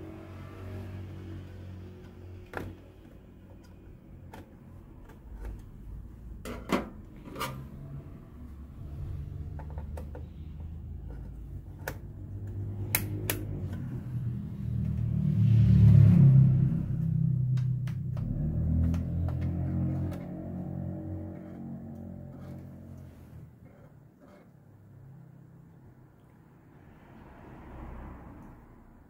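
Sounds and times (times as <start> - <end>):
low hum: 0.0 - 23.7.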